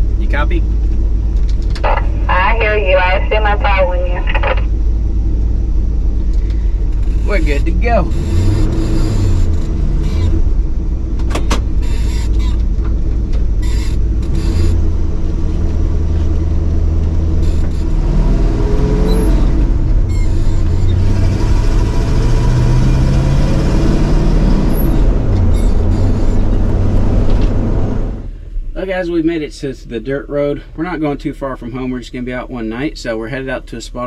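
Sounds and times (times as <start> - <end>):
truck engine running: 0.0 - 28.7.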